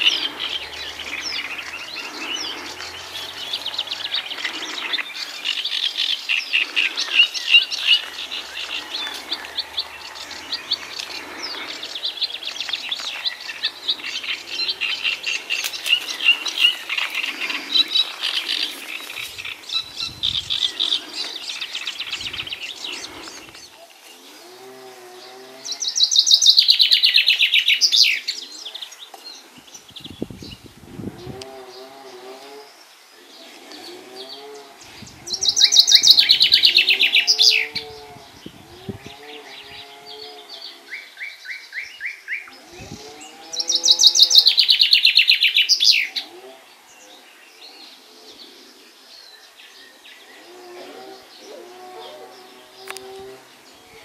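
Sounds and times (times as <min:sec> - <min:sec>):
chaffinch singing: 0:00.0 - 0:24.6, 0:25.2 - 0:48.5.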